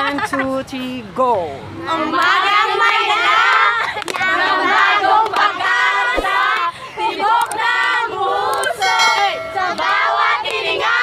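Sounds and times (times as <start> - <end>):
children singing carol: 2.0 - 11.0.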